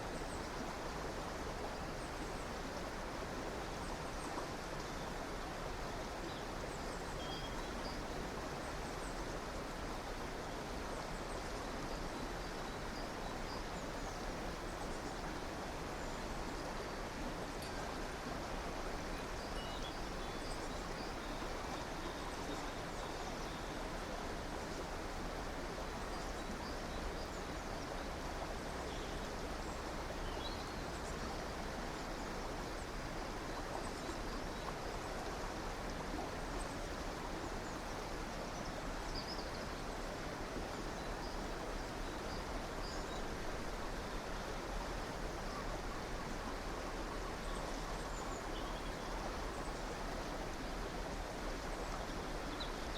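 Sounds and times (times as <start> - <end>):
river water running: 0.0 - 52.9.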